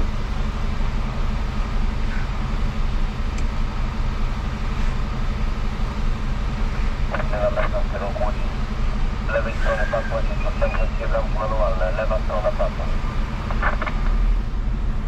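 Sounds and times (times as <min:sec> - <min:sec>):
road and cab noise: 0:00.0 - 0:15.0
truck diesel engine drone: 0:00.0 - 0:15.0.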